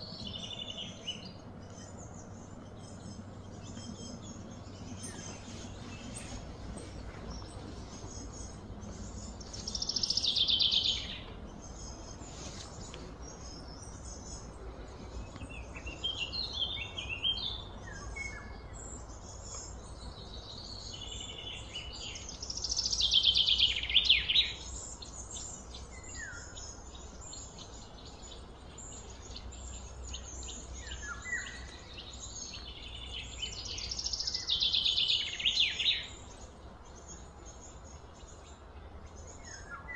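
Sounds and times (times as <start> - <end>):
bird chirps: 0.0 - 39.9
bird song phrase: 0.0 - 39.9
low background hum: 0.0 - 39.9.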